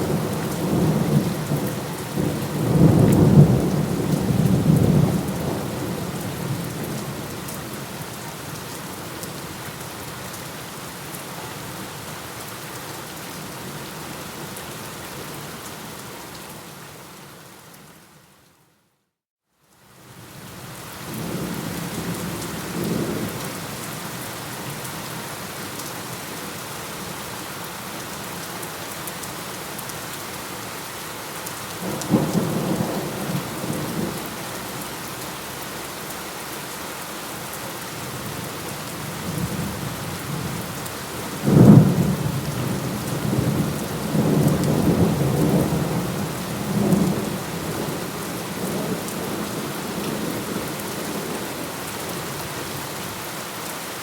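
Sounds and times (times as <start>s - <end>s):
heavy rain: 0.0s - 18.3s, 19.8s - 54.0s.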